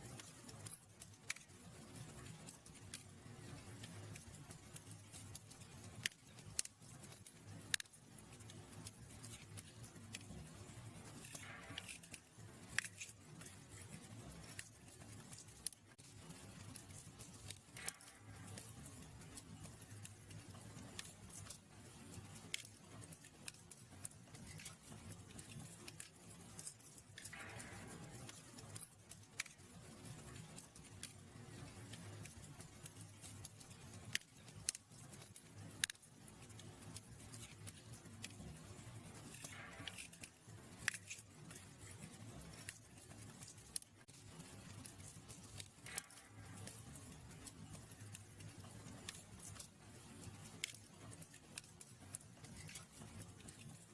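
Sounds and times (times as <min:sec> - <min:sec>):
wood fire crackling in fireplace: 0:00.0 - 0:53.9.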